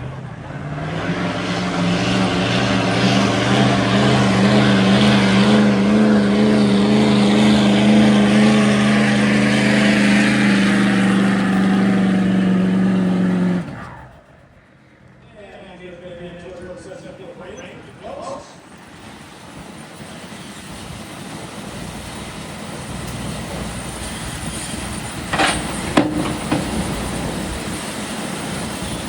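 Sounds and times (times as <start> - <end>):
diesel truck engine under heavy load: 0.0 - 29.0.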